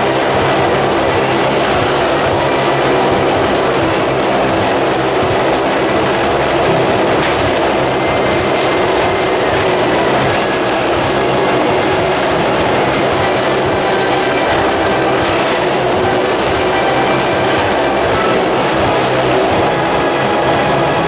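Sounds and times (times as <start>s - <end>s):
motorcycle engines running hard: 0.0s - 21.0s.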